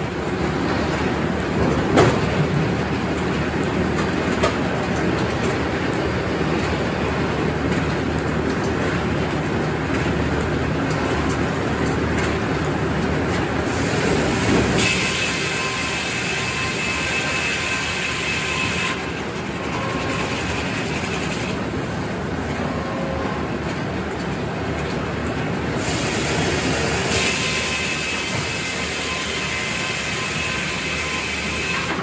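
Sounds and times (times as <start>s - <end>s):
sawmill machinery running: 0.0s - 32.0s.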